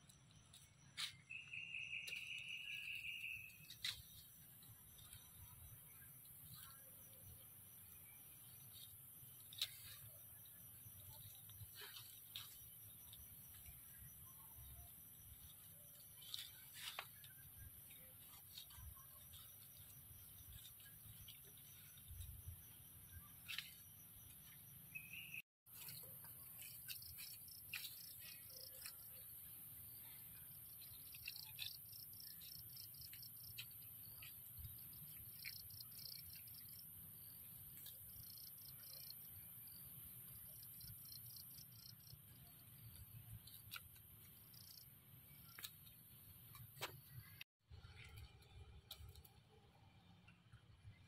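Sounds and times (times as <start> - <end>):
insects chirping: 0.0 - 47.4.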